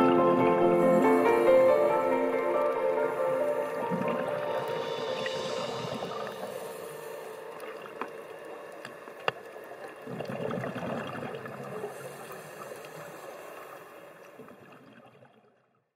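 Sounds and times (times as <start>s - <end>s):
underwater water noise: 0.0s - 15.9s
regulator bubbles gurgling: 0.2s - 13.1s.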